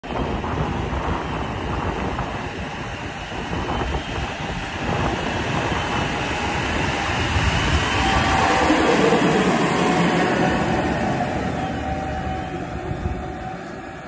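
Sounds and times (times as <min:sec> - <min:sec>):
tractor engine and tracks rumbling: 0:00.0 - 0:14.0.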